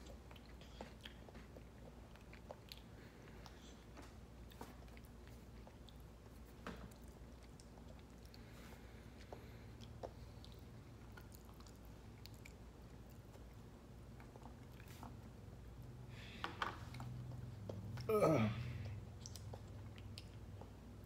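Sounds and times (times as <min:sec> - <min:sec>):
chewing cookies: 0:00.0 - 0:21.0.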